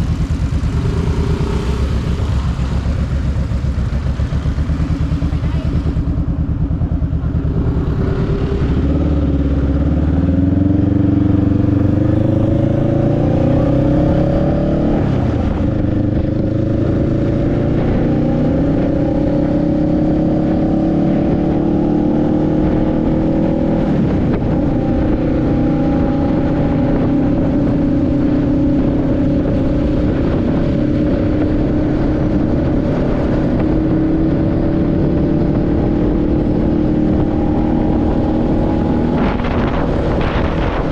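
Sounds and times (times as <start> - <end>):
motorcycle engine accelerating: 0.0 - 40.9
wind and road noise: 0.0 - 40.9.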